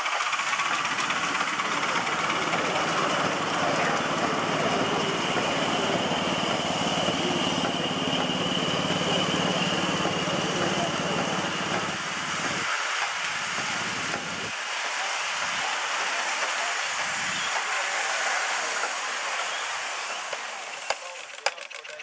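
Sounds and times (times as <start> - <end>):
engine ticking: 0.0 - 18.0
steam hissing: 0.0 - 21.5.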